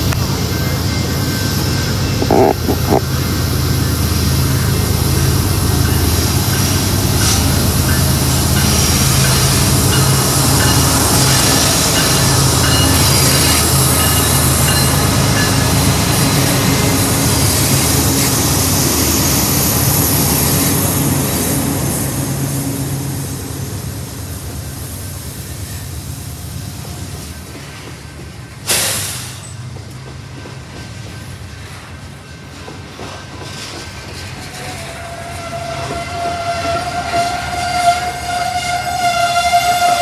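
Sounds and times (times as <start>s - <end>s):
diesel locomotives passing: 0.0s - 40.0s
freight cars rolling on rails: 0.0s - 40.0s.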